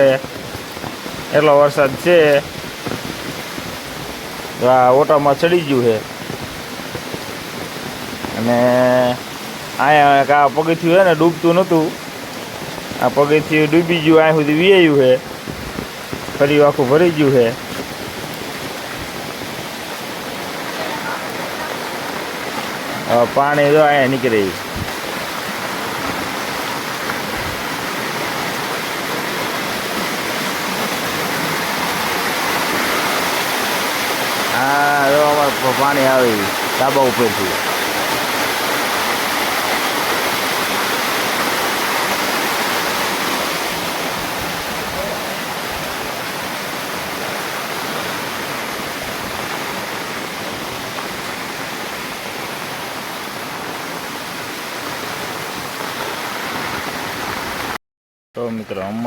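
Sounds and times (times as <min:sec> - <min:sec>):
heavy downpour: 0:00.0 - 0:57.8
rainwater pouring and rushing: 0:00.0 - 0:57.8.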